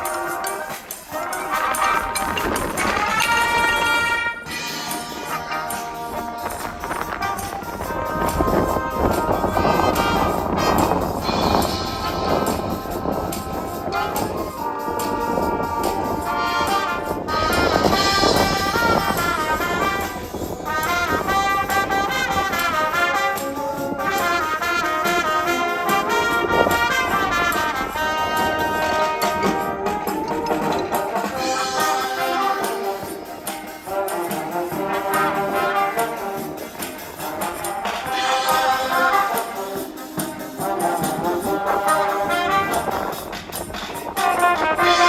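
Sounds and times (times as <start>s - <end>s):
wind band playing: 0.0s - 45.0s.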